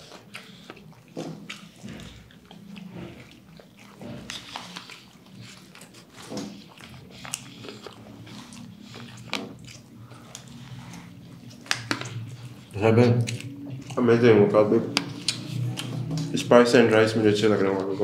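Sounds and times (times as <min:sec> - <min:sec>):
wet lip smacks: 0:00.0 - 0:14.0, 0:14.9 - 0:16.3
crunchy chewing: 0:00.0 - 0:16.4.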